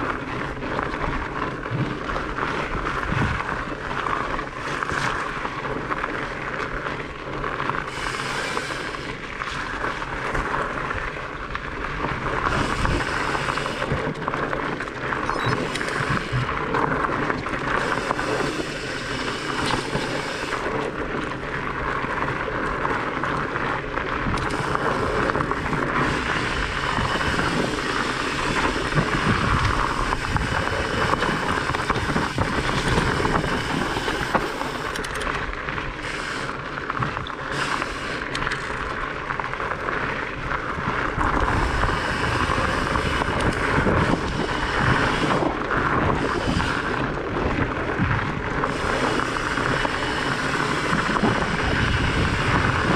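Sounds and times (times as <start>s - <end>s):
bike knocking and rattling: 0.0s - 52.9s
bike tyres rumbling over gravel: 0.0s - 52.9s
wind noise on microphone: 0.0s - 52.9s.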